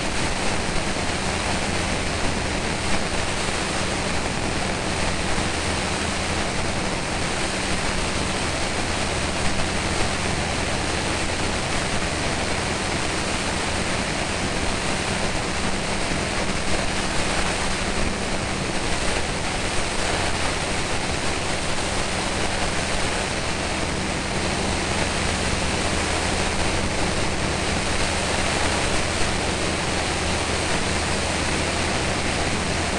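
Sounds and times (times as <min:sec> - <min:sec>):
low engine drone: 0:00.0 - 0:32.9
rushing wind noise: 0:00.0 - 0:32.9.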